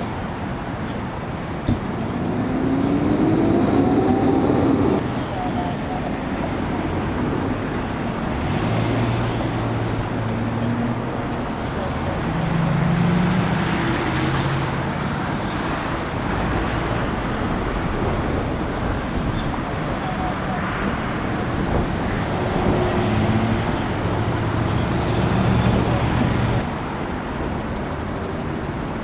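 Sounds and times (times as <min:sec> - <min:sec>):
highway traffic: 0:00.0 - 0:29.0
vehicle engine low drone: 0:01.5 - 0:26.7.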